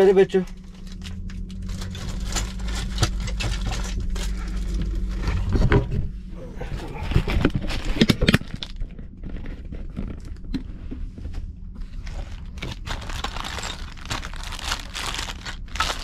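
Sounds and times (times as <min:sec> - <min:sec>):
packaging crinkling and rustling: 0:00.0 - 0:10.7, 0:11.8 - 0:16.0
low steady hum: 0:00.0 - 0:16.0.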